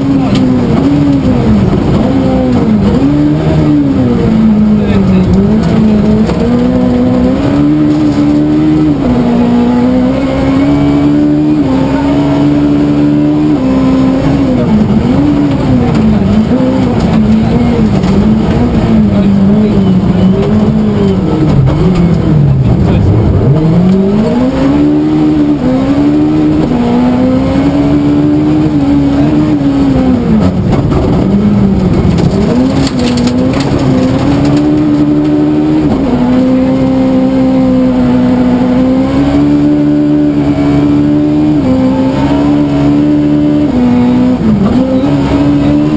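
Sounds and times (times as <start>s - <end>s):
rally car engine revving hard: 0.0s - 45.9s.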